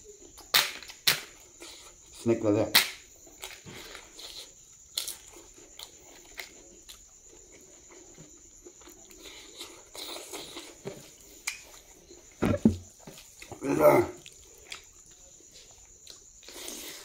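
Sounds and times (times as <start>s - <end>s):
person chewing: 3.4s - 17.0s.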